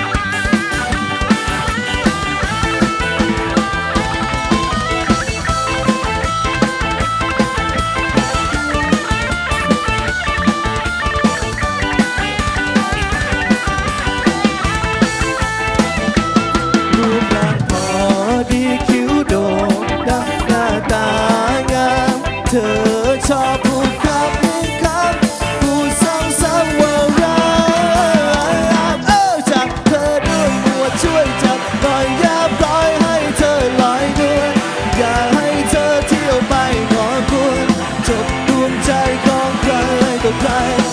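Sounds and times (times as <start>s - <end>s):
pitch-bending melody line: 0.0s - 40.9s
rock band playing: 0.0s - 40.9s.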